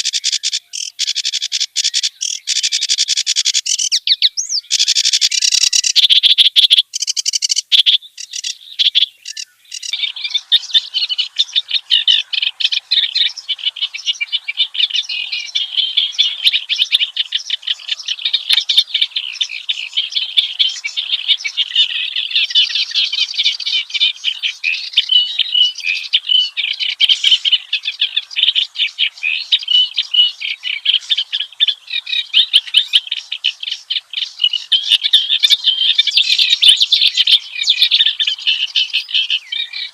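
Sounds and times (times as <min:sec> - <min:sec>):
warbler chattering song: 0:00.0 - 0:39.9.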